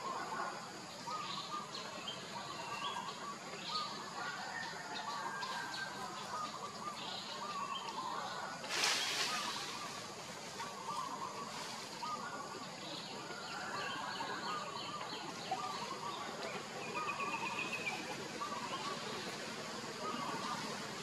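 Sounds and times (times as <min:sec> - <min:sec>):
steady forest hiss: 0:00.0 - 0:21.0.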